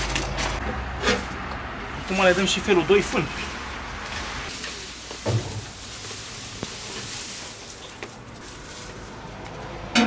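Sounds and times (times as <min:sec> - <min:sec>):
dry hay rustling: 0:01.0 - 0:09.9.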